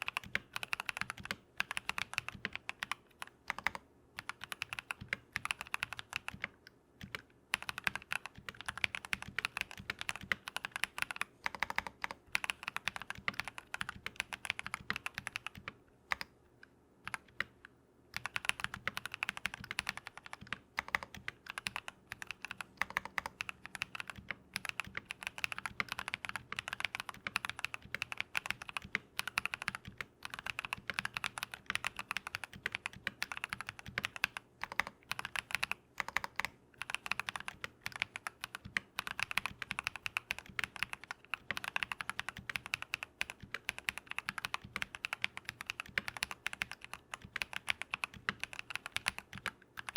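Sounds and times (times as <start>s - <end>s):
typing on mechanical keyboard: 0.0s - 16.4s, 17.0s - 49.9s.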